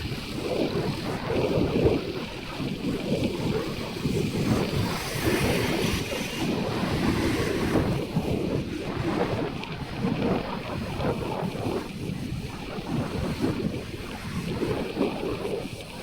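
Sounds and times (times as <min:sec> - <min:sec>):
motorcycle road noise: 0:00.0 - 0:16.0
wind buffeting microphone: 0:00.0 - 0:16.0.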